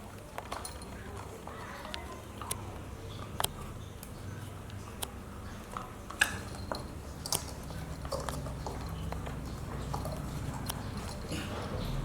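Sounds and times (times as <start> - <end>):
puppy chewing on coconut shell: 0.0 - 12.0.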